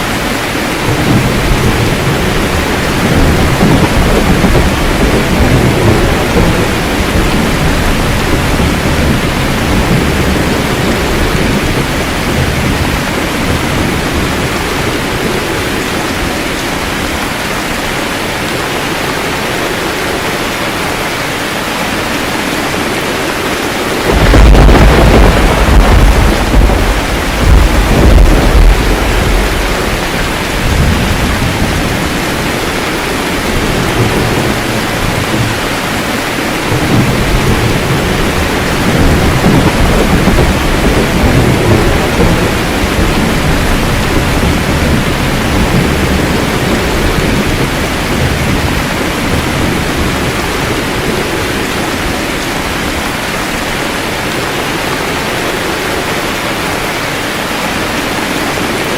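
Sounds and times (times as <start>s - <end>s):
rolling thunder: 0.0s - 20.8s, 21.7s - 58.9s
heavy rain: 0.0s - 58.9s.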